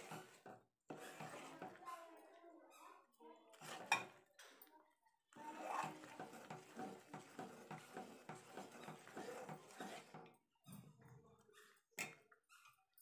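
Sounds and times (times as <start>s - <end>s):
spoon scraping thick mixture in pot: 0.0s - 13.0s.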